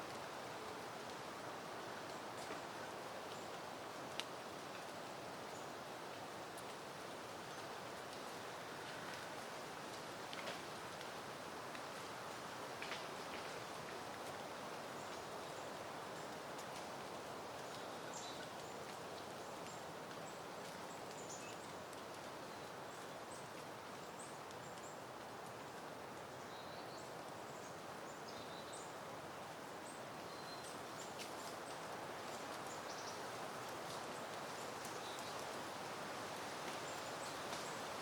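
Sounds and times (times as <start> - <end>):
wind rustling foliage: 0.0 - 38.0.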